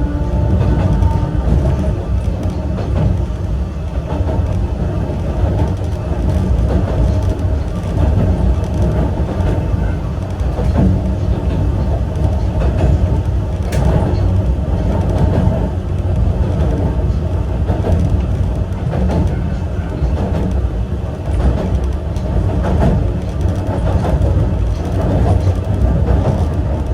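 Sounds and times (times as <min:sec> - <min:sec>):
electric train rumbling on rails: 0:00.0 - 0:26.9.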